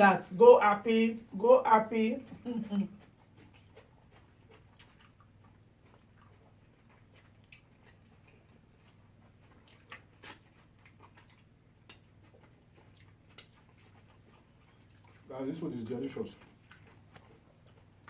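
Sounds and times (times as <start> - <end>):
quiet chewing: 1.1 - 18.0.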